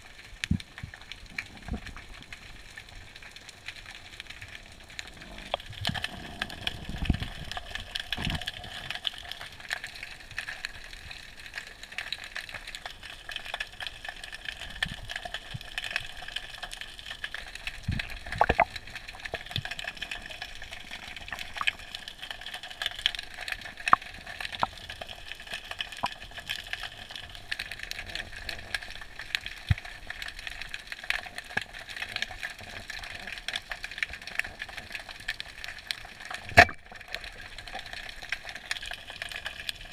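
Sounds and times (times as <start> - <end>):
underwater hiss with crackling: 0.0 - 39.9.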